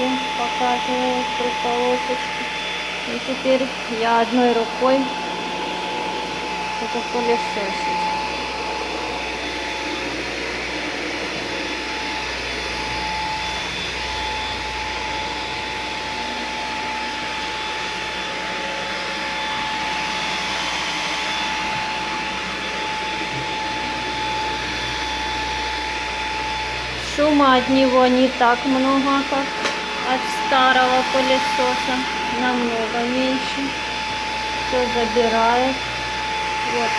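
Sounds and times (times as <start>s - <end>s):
stick vacuum running: 0.0s - 36.9s.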